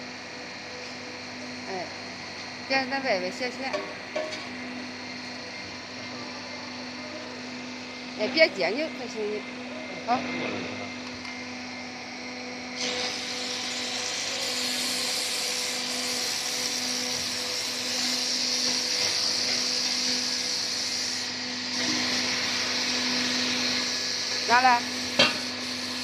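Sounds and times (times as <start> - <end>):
forming machine motor humming: 0.0 - 26.0.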